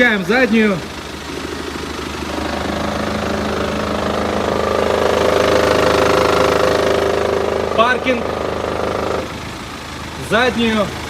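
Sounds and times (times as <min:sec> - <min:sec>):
diesel engine idling: 0:00.0 - 0:11.0
engine drone and vibration: 0:00.0 - 0:11.0.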